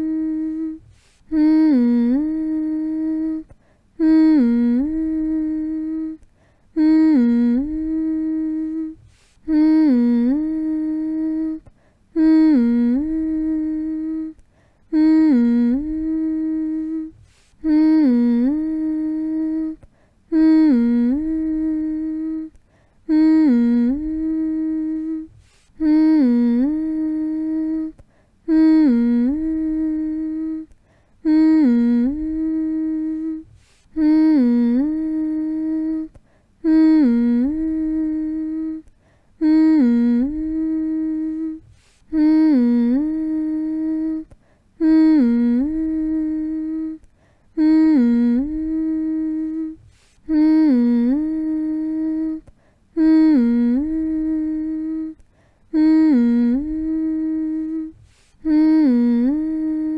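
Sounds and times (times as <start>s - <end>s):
person humming: 0.0s - 59.9s.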